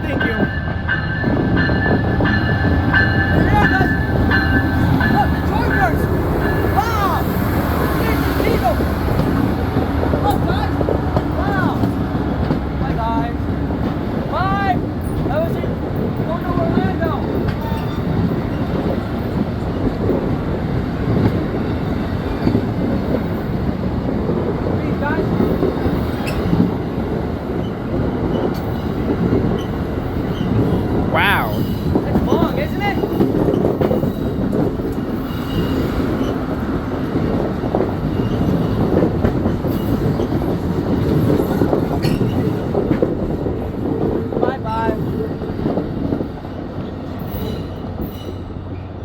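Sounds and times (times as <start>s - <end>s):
train cars rolling on rails: 0.0s - 49.0s.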